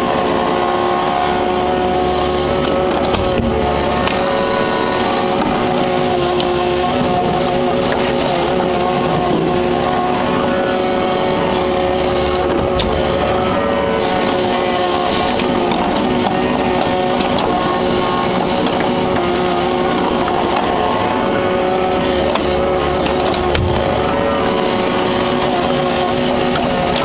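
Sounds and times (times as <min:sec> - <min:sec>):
excavator diesel engine whining: 0:00.0 - 0:27.0.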